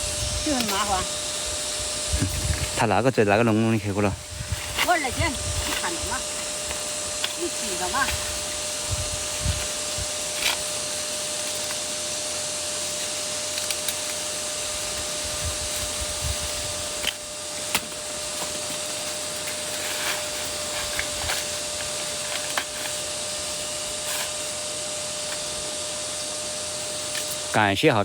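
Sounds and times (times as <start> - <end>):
machine whirring hum: 0.0 - 28.0.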